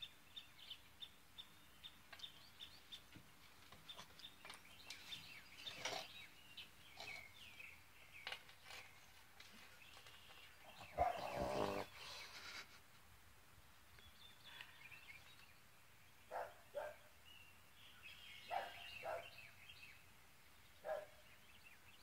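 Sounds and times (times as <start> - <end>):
birds chirping: 0.0 - 13.1, 13.7 - 22.0.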